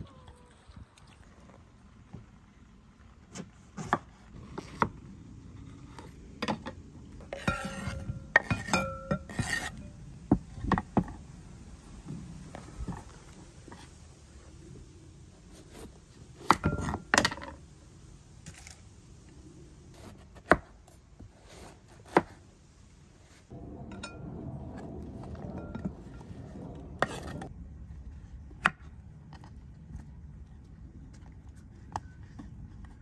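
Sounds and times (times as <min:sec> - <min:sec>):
background noise: 0:00.0 - 0:33.0.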